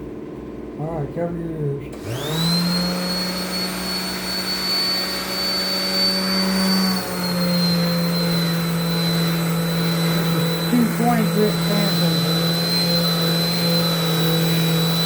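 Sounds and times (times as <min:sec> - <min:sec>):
electric sander whining: 0:02.0 - 0:15.0.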